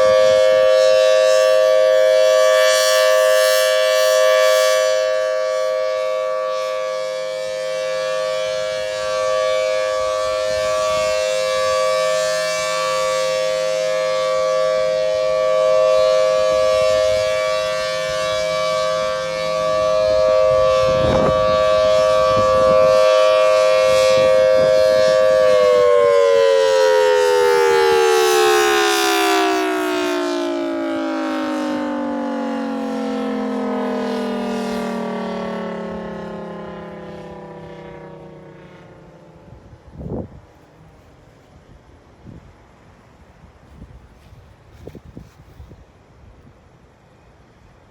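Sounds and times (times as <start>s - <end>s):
dual-tone warning siren: 0.0s - 41.4s, 42.0s - 45.8s.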